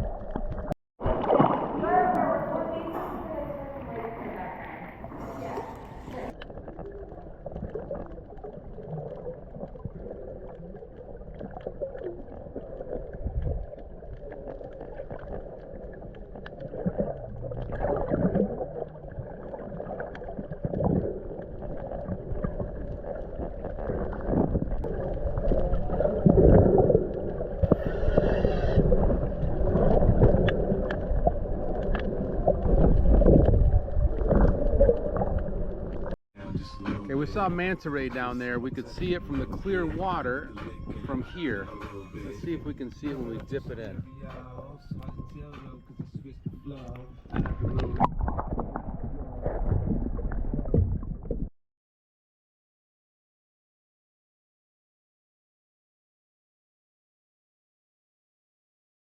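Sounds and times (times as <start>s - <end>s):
muffled water sloshing and gurgling: 0.0s - 51.5s.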